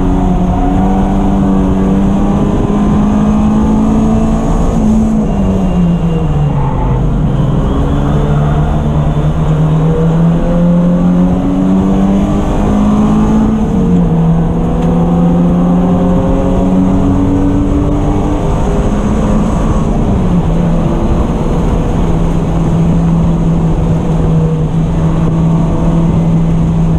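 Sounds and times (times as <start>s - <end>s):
race car engine running hard: 0.0s - 26.9s.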